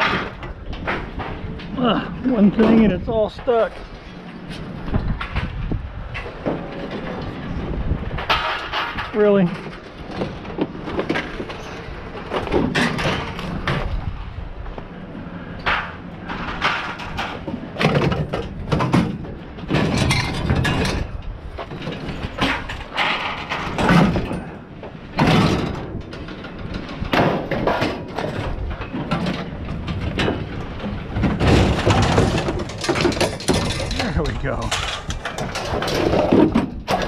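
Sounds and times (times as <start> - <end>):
scrap metal clanking and scraping: 0.0 - 14.1, 15.2 - 37.0.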